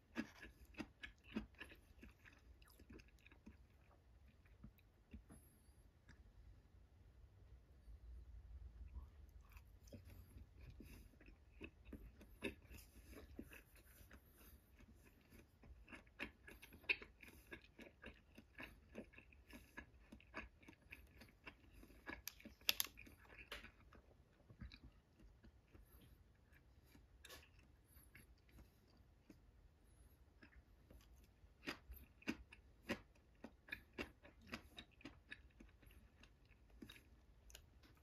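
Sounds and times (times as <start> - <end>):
person chewing: 0.0 - 6.4, 8.8 - 38.0.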